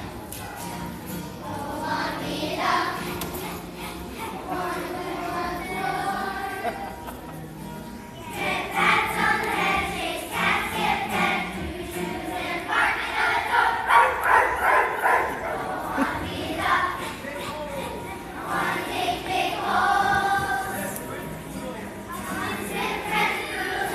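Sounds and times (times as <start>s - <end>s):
children's choir singing: 0.0s - 7.3s, 8.1s - 21.2s, 22.1s - 23.9s.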